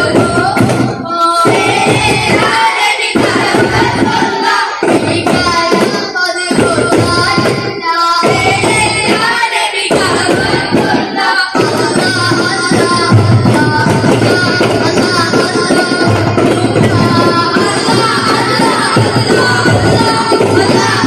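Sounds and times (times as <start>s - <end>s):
boys singing in chorus: 0.0s - 21.0s
frame drums beaten by hand: 0.0s - 21.0s.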